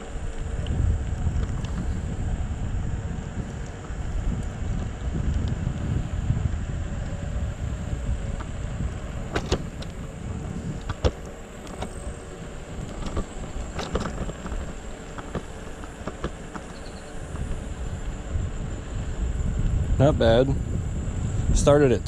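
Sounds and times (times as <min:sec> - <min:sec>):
scooter tyres and wind rumble: 0:00.0 - 0:22.0
wheels clicking and rattling: 0:00.0 - 0:22.0.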